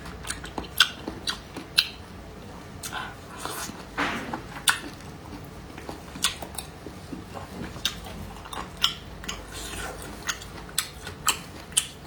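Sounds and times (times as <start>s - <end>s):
chewing meat: 0.0s - 12.0s.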